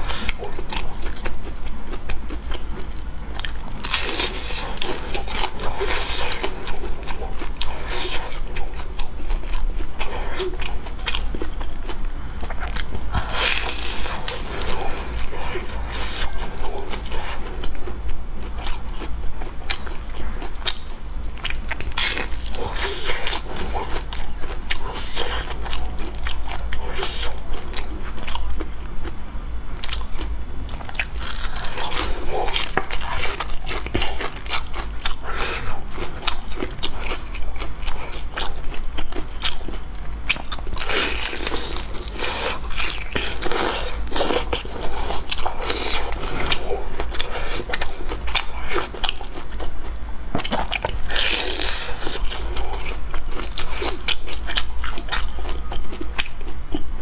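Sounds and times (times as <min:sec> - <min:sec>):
crunchy chewing: 0:00.0 - 0:29.2, 0:29.8 - 0:57.0.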